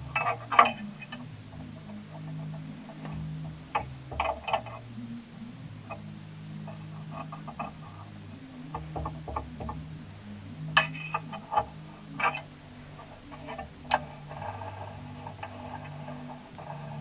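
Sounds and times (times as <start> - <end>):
woodworking machine humming: 0.0 - 17.0.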